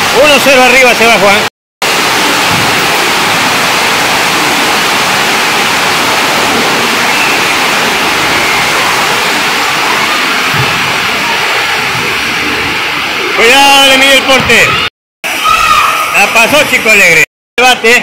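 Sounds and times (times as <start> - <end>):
heavy rain on a roof: 0.0 - 14.7.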